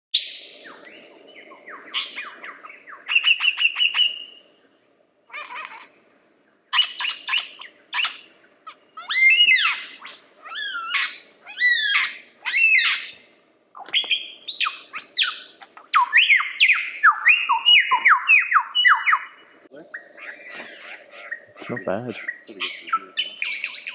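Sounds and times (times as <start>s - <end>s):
lyrebird singing: 0.1s - 23.9s.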